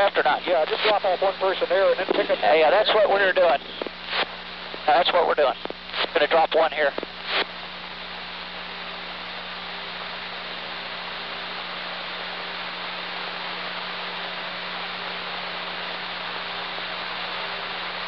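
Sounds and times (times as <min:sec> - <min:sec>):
low electrical hum: 0:00.0 - 0:18.0
steady hiss: 0:00.0 - 0:18.0.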